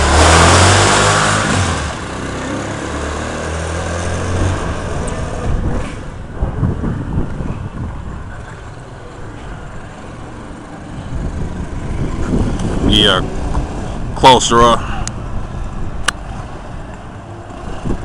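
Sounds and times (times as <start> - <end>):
quad bike engine droning: 0.0 - 18.0.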